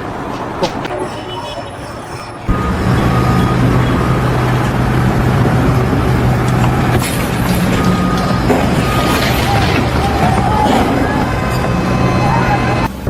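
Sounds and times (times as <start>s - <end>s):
engine running: 2.4s - 13.0s.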